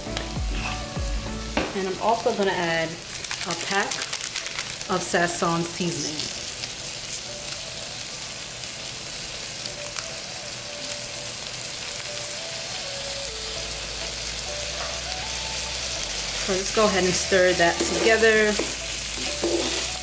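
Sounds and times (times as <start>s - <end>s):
food sizzling in oil: 0.0s - 20.0s
soft background music: 0.0s - 20.0s.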